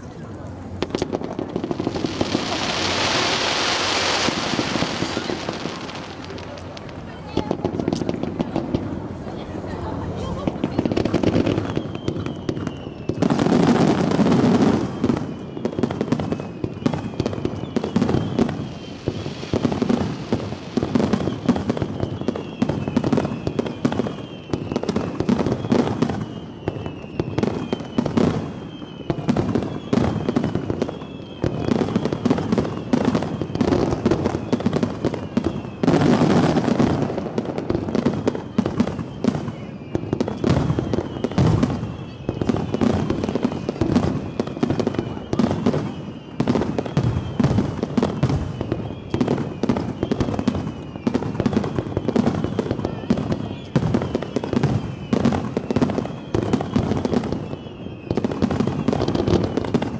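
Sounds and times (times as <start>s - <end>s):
fireworks booming: 0.0s - 59.9s
fireworks crackling: 0.0s - 59.9s
falling whistles: 1.0s - 8.1s, 10.7s - 59.9s.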